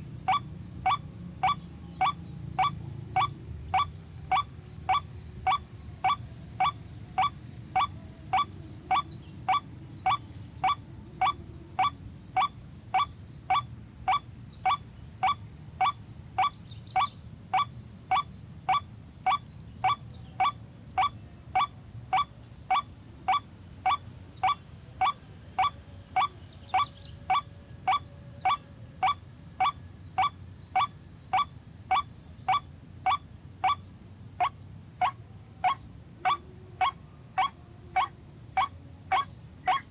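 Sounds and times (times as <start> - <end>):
waterhen nasal honking call: 0.2 - 39.9.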